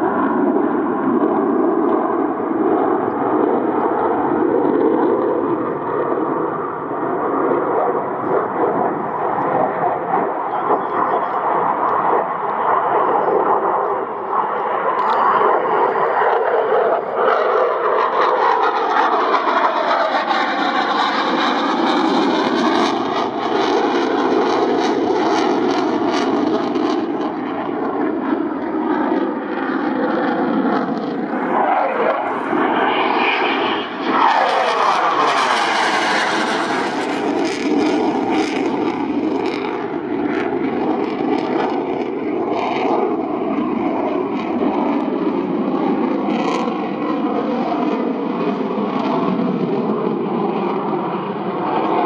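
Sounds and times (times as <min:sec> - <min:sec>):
jet engines roaring: 0:00.0 - 0:52.0
jet passing overhead whoosh: 0:00.0 - 0:52.0.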